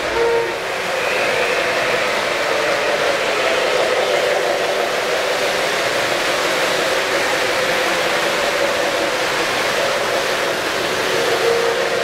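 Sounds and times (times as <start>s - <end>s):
model trains rolling past: 0.0s - 12.0s.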